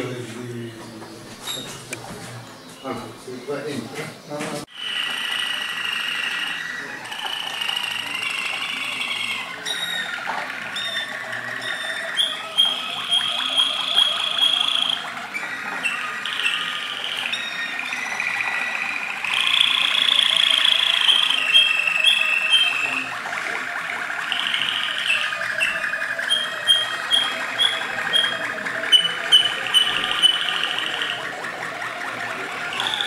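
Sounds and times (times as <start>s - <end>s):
canaries singing trills: 0.0s - 4.6s, 5.6s - 33.0s.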